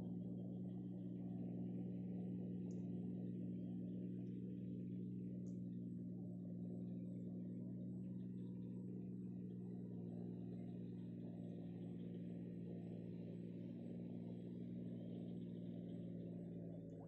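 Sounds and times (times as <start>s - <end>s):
low hum of held tones: 0.0s - 17.0s.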